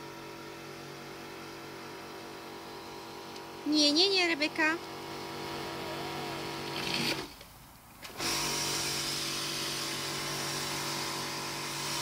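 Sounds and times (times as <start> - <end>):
pressure washer motor humming: 0.0 - 7.4, 8.0 - 12.0.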